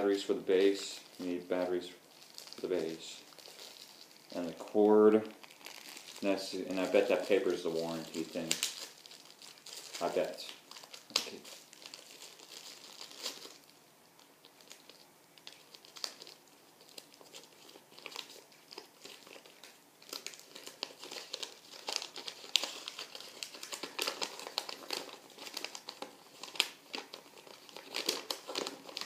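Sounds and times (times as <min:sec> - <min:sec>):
paper crinkling: 0:00.0 - 0:29.0.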